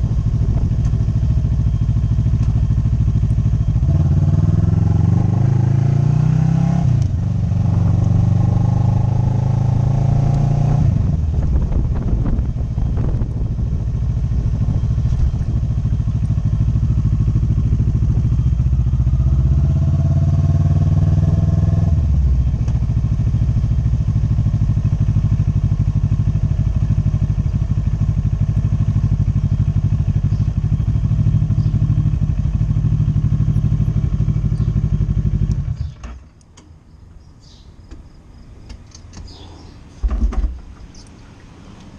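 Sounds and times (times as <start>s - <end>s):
motorcycle engine accelerating: 0.0s - 36.1s.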